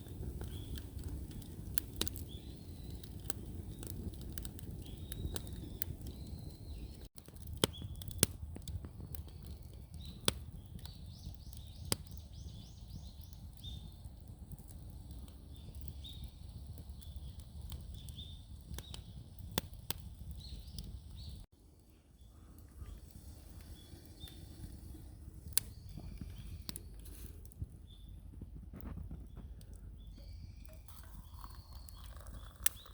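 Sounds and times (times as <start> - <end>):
wood fire crackling and popping: 0.0 - 21.5, 22.3 - 32.9.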